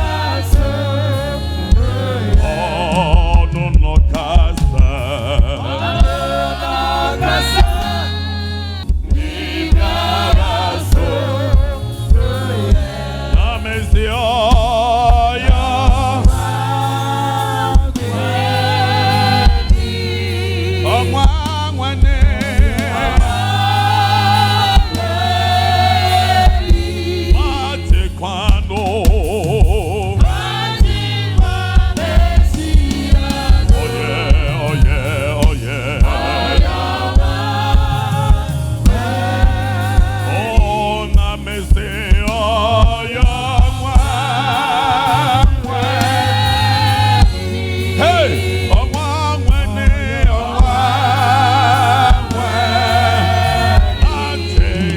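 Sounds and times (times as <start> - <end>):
choir singing gospel song: 0.0 - 54.9.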